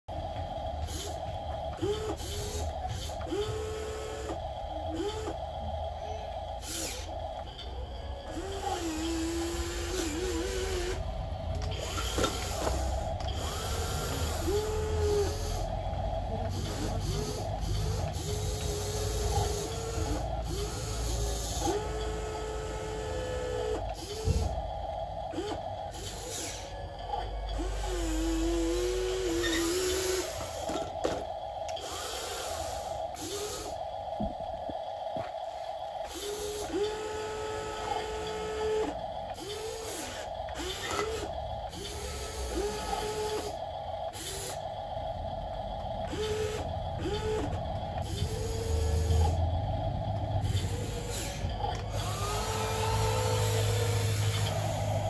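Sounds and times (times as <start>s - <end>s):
toy excavator motors whining: 0.1s - 55.0s.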